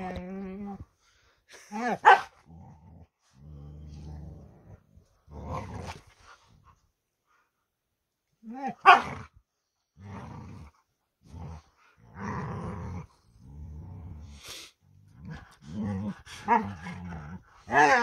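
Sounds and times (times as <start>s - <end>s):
dogs growling: 0.0s - 6.5s, 9.9s - 18.0s.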